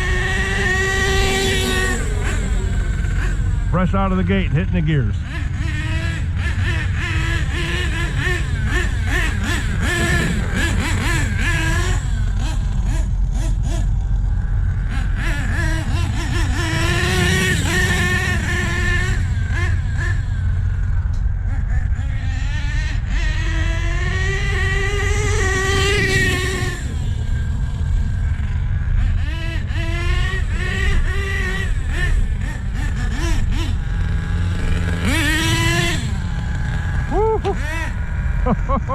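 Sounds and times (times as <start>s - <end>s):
rc truck engine revving: 0.0s - 38.9s.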